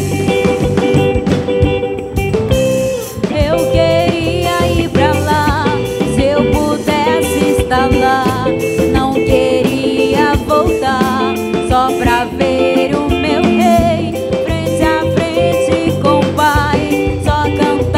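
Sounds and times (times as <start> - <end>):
worship band music: 0.0 - 17.9.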